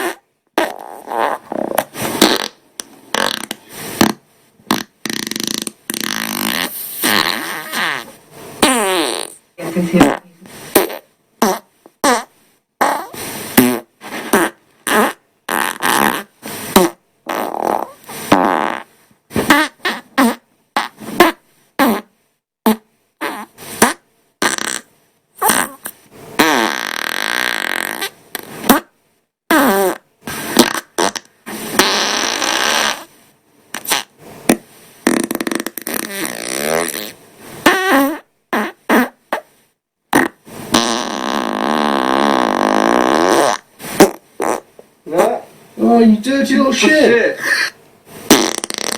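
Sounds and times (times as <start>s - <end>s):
human farts: 0.0s - 45.4s, 46.8s - 48.9s.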